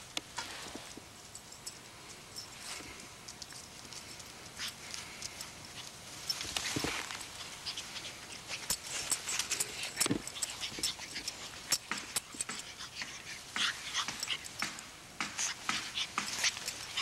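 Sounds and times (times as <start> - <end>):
rustling on grass: 0.0 - 17.0
dogs sniffing: 2.7 - 17.0.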